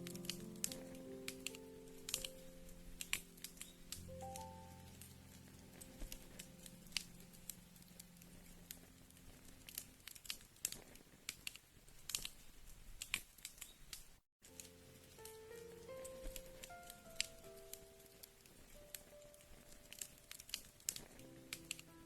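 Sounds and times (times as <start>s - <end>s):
soft held music notes: 0.0s - 10.7s, 14.4s - 22.0s
faint hiss: 0.0s - 22.0s.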